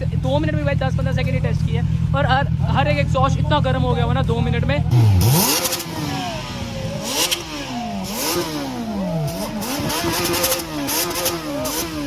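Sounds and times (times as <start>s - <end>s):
exhaust crackles: 0.0s - 12.0s
motorcycle engine revving: 0.0s - 12.0s.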